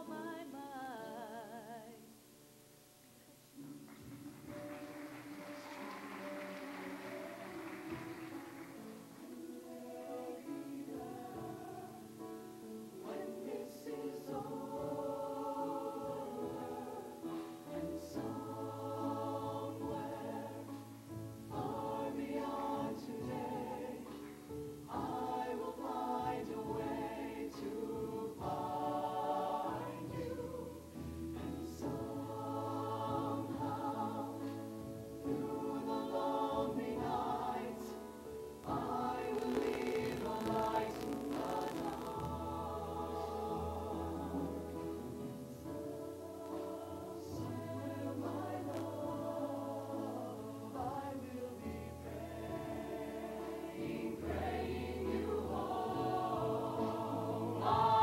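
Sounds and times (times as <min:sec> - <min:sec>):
choir singing in harmony: 0:00.0 - 0:02.0, 0:03.9 - 0:58.0.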